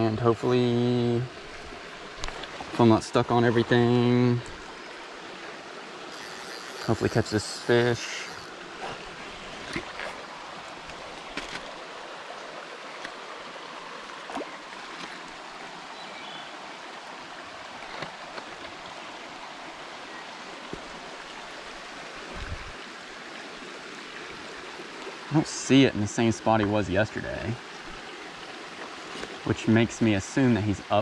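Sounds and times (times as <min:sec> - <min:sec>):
water rushing over stones: 0:00.0 - 0:31.0.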